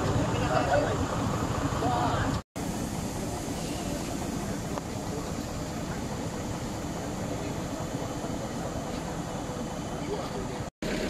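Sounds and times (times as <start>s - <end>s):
constant hiss: 0.0s - 10.7s
vehicle engine idling: 0.0s - 11.0s.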